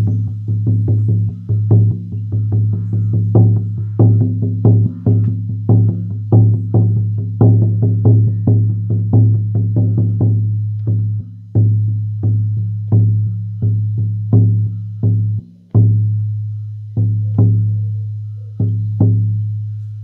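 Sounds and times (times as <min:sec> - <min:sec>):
frame drum booming: 0:00.0 - 0:19.6.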